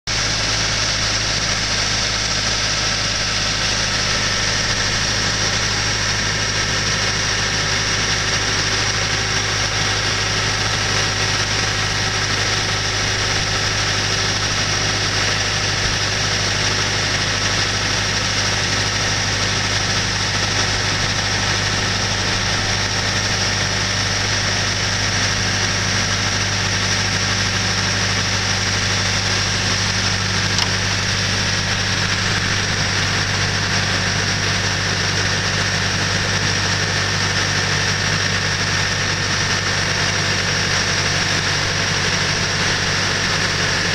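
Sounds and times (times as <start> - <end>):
boat hoist engine humming: 0.1 - 43.9.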